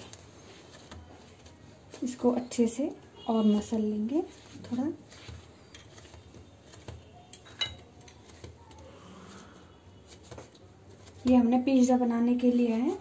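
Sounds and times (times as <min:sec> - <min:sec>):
hands kneading dough: 0:00.0 - 0:13.0.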